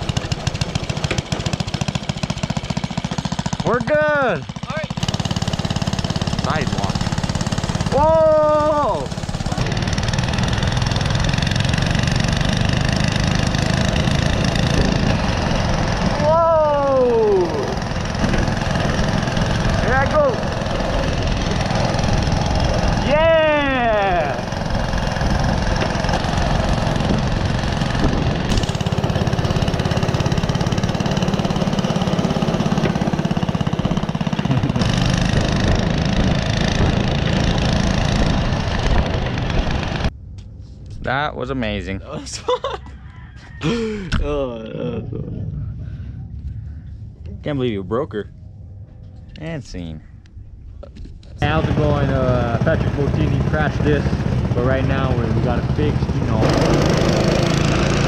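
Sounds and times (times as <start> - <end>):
small engine puttering: 0.0 - 40.1, 50.8 - 58.0.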